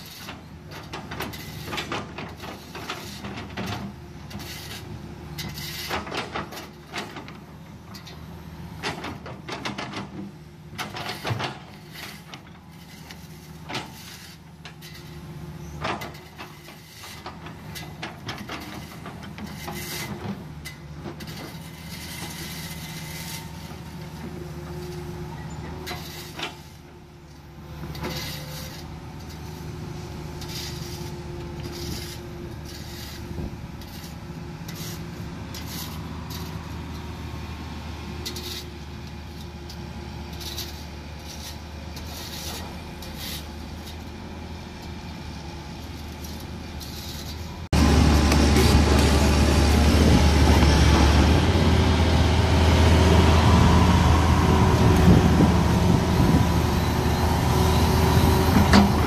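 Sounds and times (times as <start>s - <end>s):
excavator diesel engine running: 0.0s - 59.0s
scrapes and clunks of digging: 0.0s - 59.0s.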